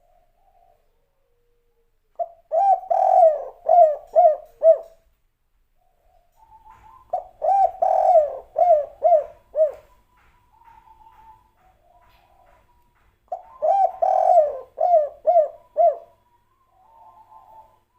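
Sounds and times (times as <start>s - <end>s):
dove cooing: 0.0s - 5.0s, 5.8s - 17.9s.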